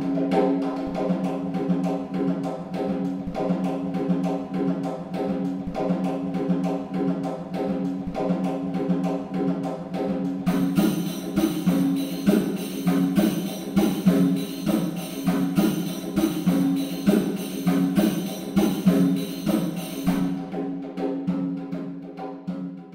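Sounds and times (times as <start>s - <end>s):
background music with light percussion: 0.0s - 22.9s.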